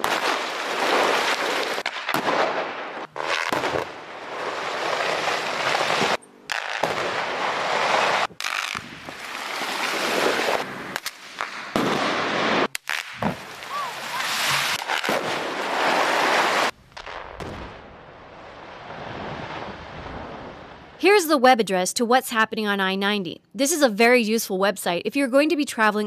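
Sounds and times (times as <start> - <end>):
rock blasting explosions: 0.0 - 21.0.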